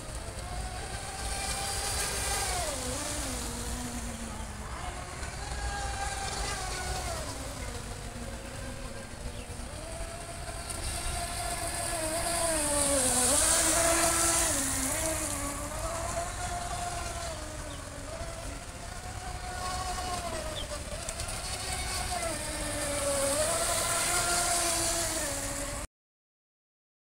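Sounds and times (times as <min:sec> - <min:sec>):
boat motor whining: 0:00.0 - 0:25.9.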